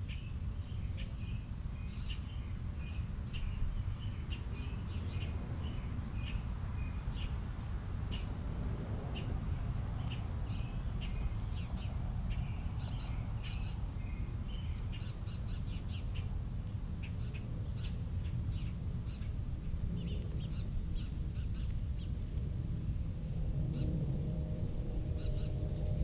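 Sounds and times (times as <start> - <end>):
songbirds chirping: 0.0 - 26.0
steady low rumble: 0.0 - 26.0.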